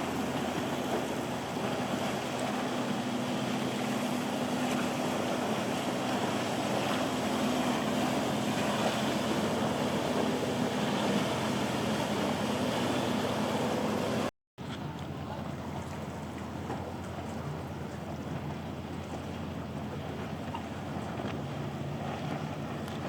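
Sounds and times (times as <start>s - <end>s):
motorboat engines droning: 0.0s - 23.0s
surf washing: 0.0s - 23.0s
wind: 0.0s - 23.0s.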